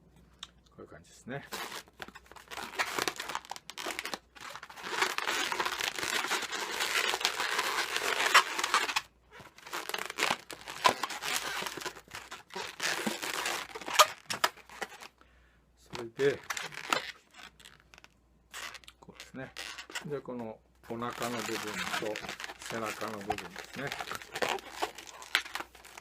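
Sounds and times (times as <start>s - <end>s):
balloons rubbing and twisting: 1.5s - 15.2s, 15.9s - 26.0s.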